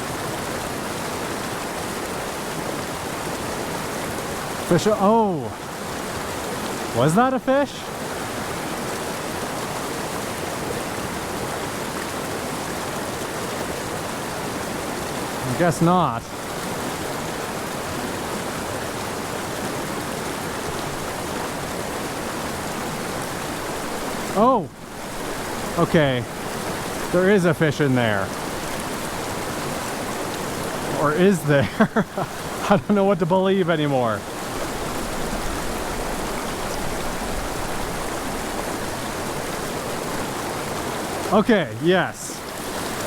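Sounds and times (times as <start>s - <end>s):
creek rushing among boulders: 0.0s - 43.0s.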